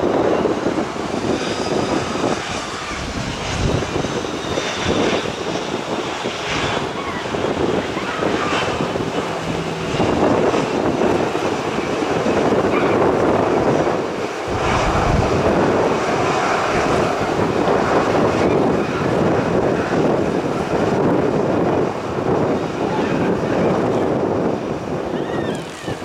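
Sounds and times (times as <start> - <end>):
airliner engine noise: 0.0 - 26.0
wind buffeting microphone: 0.0 - 26.0.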